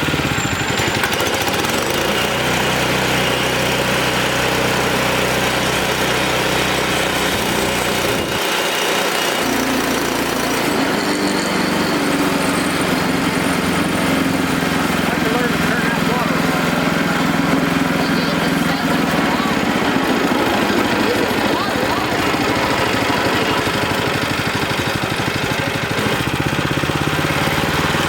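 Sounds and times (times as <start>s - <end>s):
band sawmill running: 0.0s - 28.0s.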